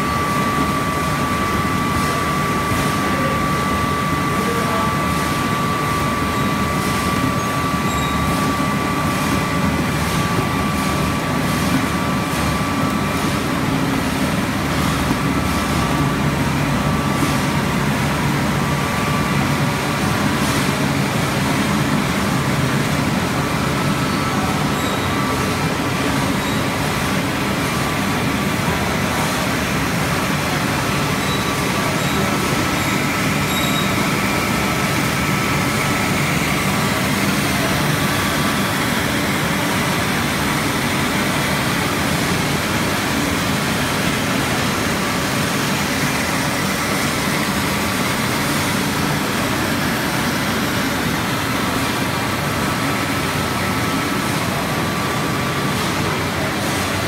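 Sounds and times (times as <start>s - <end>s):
processing machinery din: 0.0s - 57.0s
thin steady whine: 0.0s - 57.0s.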